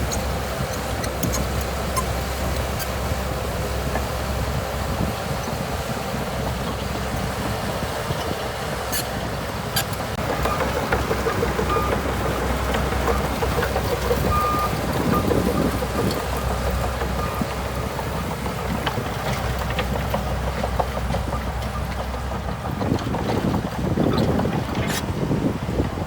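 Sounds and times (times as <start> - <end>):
bulldozer diesel engine running: 0.0 - 26.0
wind buffeting microphone: 0.0 - 26.0.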